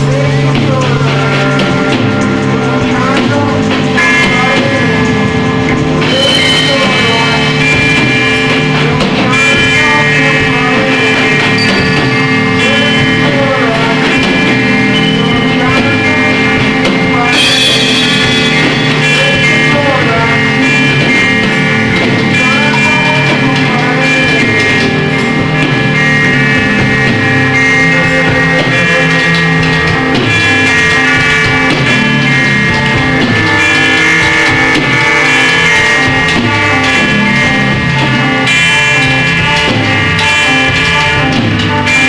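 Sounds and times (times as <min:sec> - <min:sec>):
droning noise music: 0:00.0 - 0:42.0.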